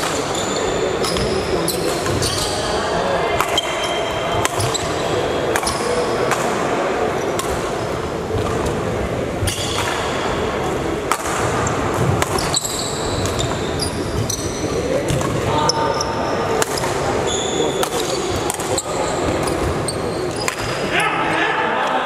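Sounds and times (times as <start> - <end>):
rackets hitting shuttlecock: 1.0 - 8.8, 9.4 - 15.5, 16.5 - 20.9.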